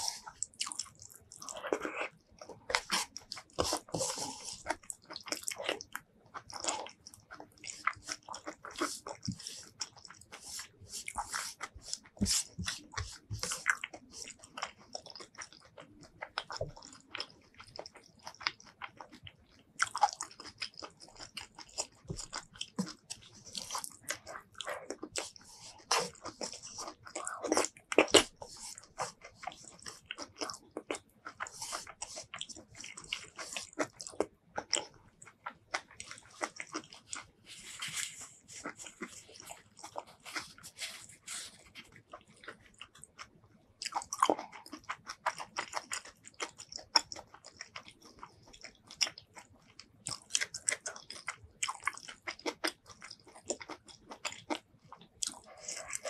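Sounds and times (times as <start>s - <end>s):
wet chewing and lip smacking: 0.0s - 56.0s.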